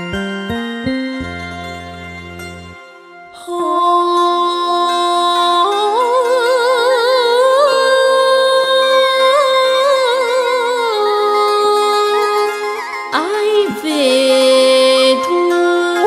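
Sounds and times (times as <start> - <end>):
melody with wavering vibrato: 0.0 - 16.0
song backing track chords: 0.0 - 16.0.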